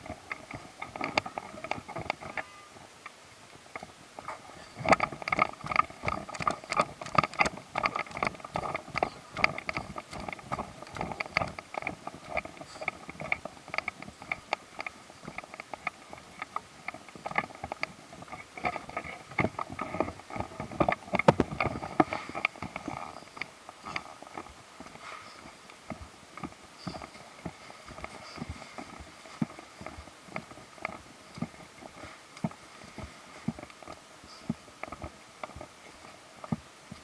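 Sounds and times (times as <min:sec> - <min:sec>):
walking footsteps: 0:03.6 - 0:37.0.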